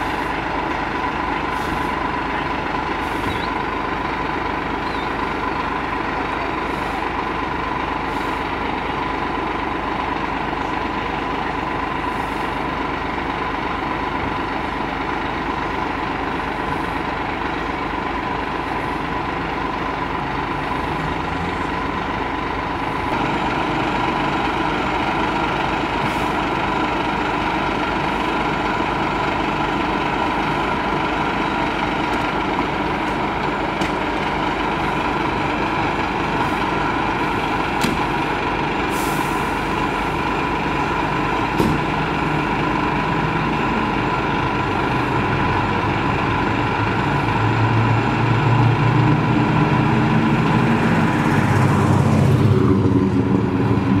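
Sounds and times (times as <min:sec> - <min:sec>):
diesel truck engines idling: 0:00.0 - 0:54.0.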